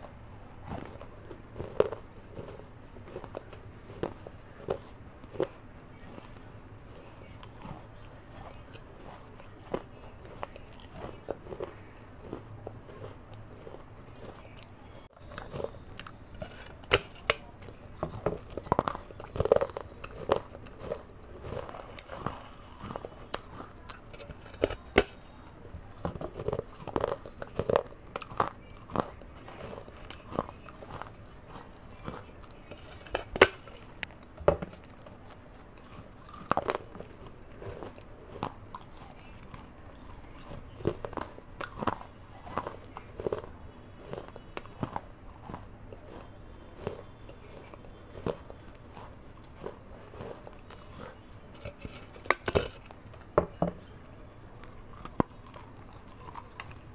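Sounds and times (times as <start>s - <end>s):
biting and chewing clay pot: 0.0s - 56.9s.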